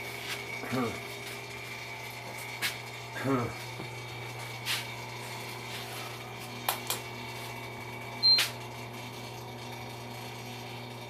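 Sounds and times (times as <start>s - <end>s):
machine electrical hum: 0.0s - 11.0s.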